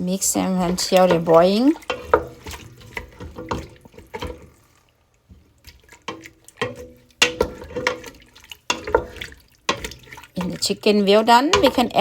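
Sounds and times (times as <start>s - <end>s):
water sloshing: 0.0s - 12.0s
utensil scraping a pan: 0.1s - 12.0s.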